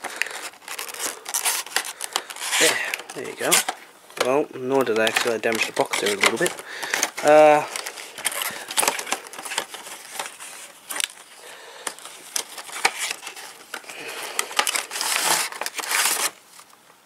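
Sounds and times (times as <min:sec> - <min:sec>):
cardboard box rustling and crinkling: 0:00.0 - 0:16.7.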